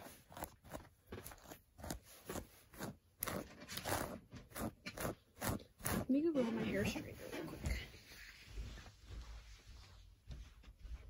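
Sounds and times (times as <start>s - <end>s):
scratchy hairbrush strokes: 0.0s - 9.0s.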